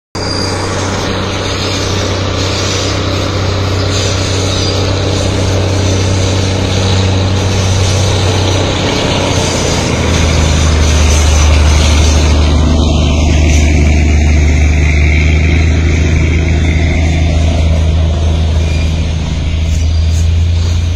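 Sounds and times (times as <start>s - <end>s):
engine droning: 0.1s - 20.9s
rushing noise: 0.2s - 20.9s.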